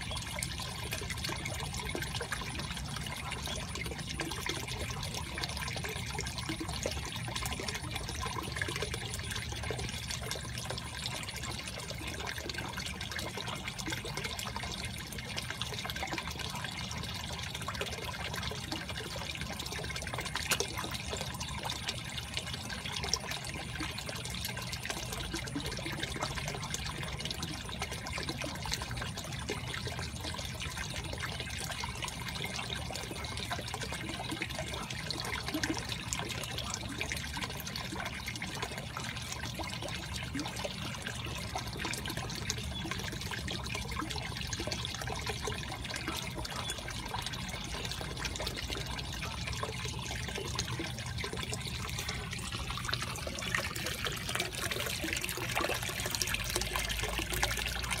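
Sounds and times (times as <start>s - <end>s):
water trickling into pond: 0.0s - 58.0s.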